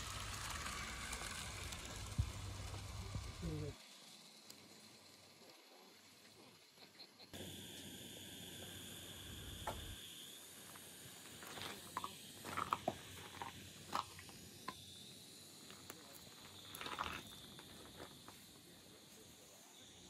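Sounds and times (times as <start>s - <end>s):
faint steam hiss: 0.0s - 20.0s.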